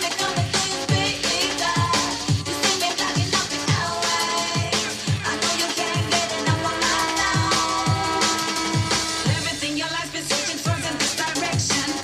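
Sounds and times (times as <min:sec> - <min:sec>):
electronic dance music: 0:00.0 - 0:12.0
heavy bass kick drum: 0:00.0 - 0:12.0.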